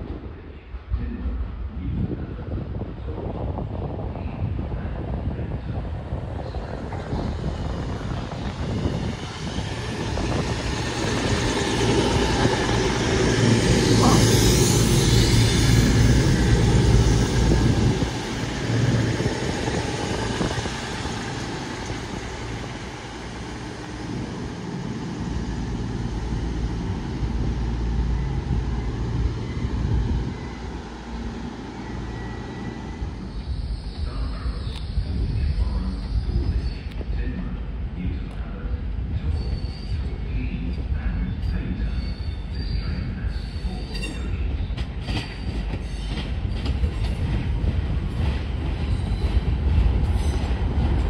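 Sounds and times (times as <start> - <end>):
diesel train engine rumble: 0.0 - 51.0
train rail noise: 4.6 - 51.0.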